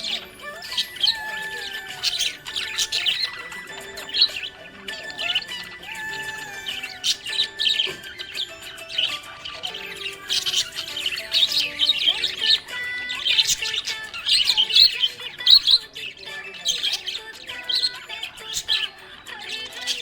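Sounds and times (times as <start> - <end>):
budgerigar chirping and warbling: 0.0 - 20.0.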